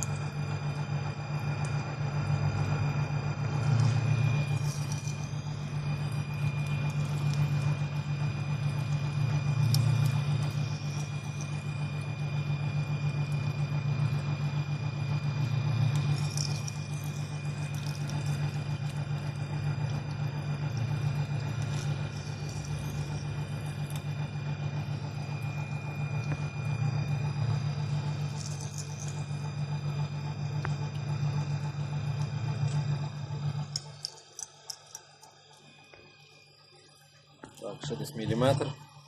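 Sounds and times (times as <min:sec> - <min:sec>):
metal lathe humming: 0:00.0 - 0:34.2
high machine whine: 0:00.0 - 0:39.0.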